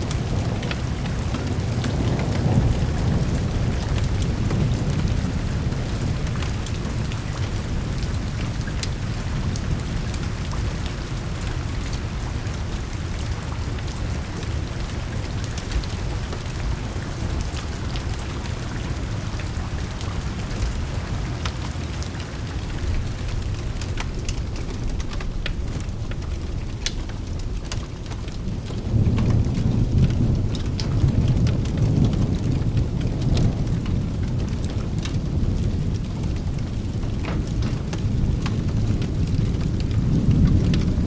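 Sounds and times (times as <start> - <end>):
sharp ticks of raindrops: 0.0 - 41.0
steady rain: 0.0 - 41.0
thunder rumble: 0.0 - 41.0.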